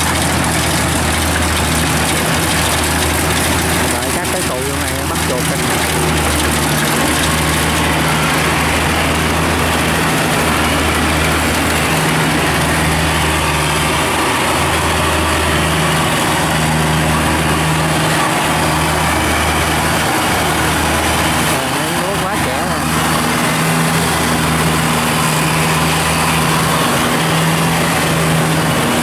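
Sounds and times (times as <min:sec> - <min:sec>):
diesel engine drone: 0:00.0 - 0:29.0.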